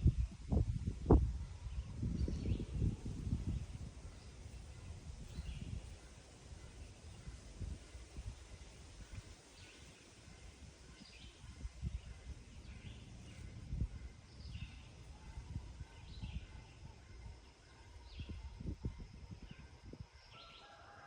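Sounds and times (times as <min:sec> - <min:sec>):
small birds chirping: 0:01.6 - 0:20.8.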